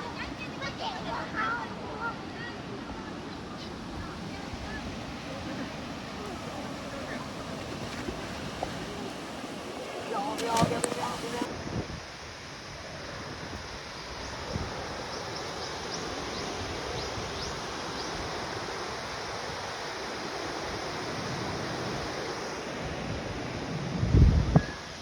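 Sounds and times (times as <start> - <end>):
river water rushing: 0.0 - 24.0
wind buffeting microphone: 3.7 - 25.0.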